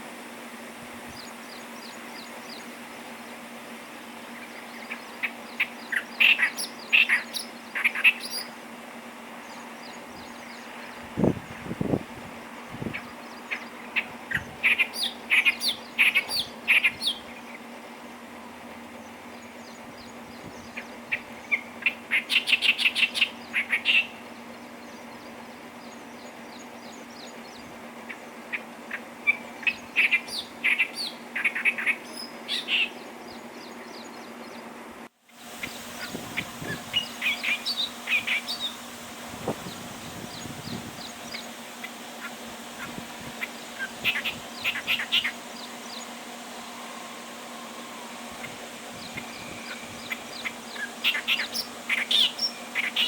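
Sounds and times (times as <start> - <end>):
reed warbler song: 0.0 - 53.0
steady low hum: 0.0 - 53.0.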